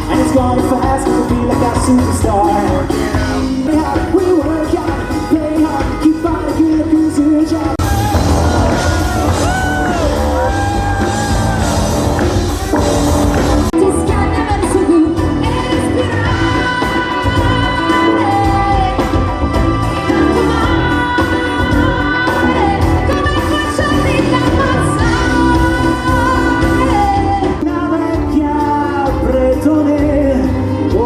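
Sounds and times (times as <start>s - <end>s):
person singing: 0.0s - 12.8s, 13.6s - 31.0s
amplified band playing pop music: 0.0s - 31.0s.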